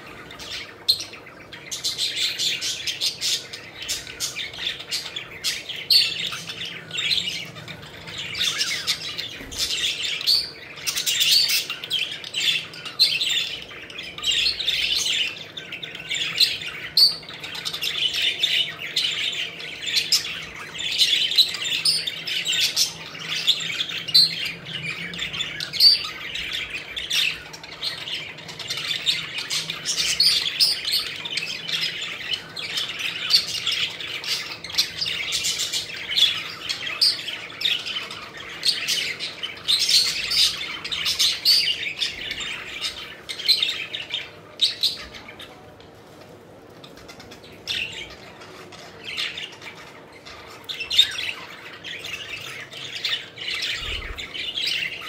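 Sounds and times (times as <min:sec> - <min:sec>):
budgerigars chirping and chattering: 0:00.0 - 0:46.0, 0:46.7 - 0:55.0.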